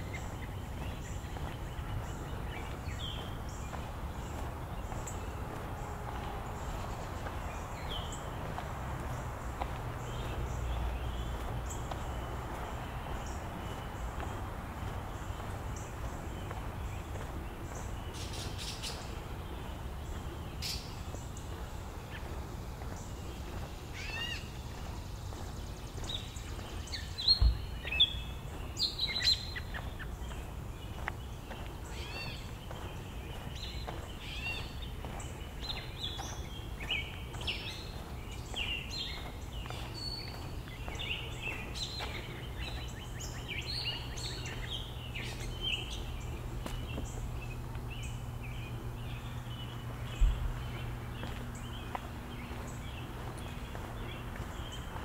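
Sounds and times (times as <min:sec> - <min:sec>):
birds chirping and calling: 0:00.0 - 0:55.0
low steady hum: 0:00.0 - 0:55.0
low steady rumble: 0:00.0 - 0:55.0.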